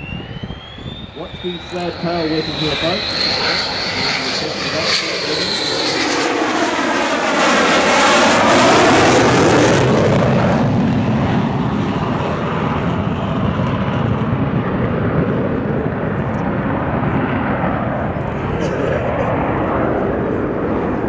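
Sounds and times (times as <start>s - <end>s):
jet passing low overhead: 0.0s - 21.0s.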